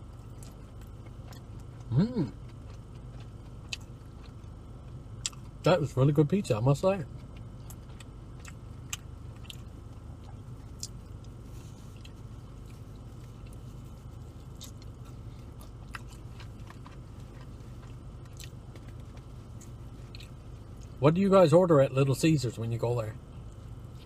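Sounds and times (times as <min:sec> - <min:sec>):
chewing pizza: 0:00.0 - 0:21.3
steady low hum: 0:00.0 - 0:24.0.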